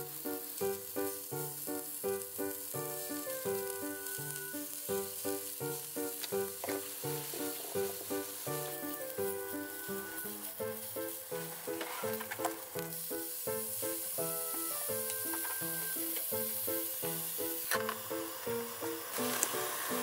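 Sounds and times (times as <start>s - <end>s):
meatballs sizzling in a frying pan: 0.0s - 20.0s.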